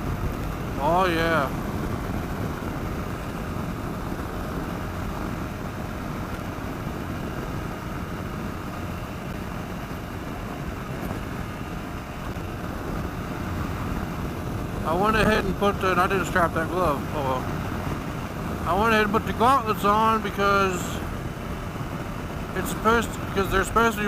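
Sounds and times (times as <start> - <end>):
motorcycle engine running: 0.0 - 23.6
wind rushing over microphone: 0.0 - 24.0.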